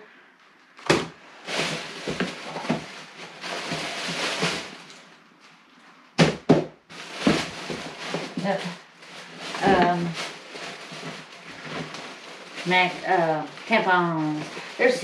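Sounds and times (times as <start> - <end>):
plastic bag rustling: 0.8 - 15.0.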